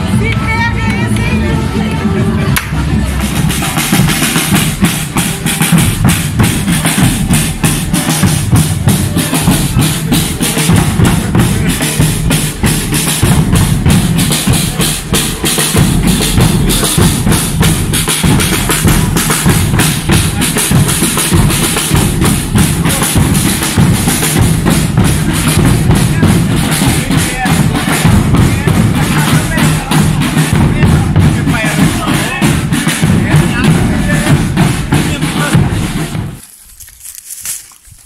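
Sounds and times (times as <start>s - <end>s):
snare drums: 0.0s - 36.4s
bass drums beating: 0.0s - 38.0s.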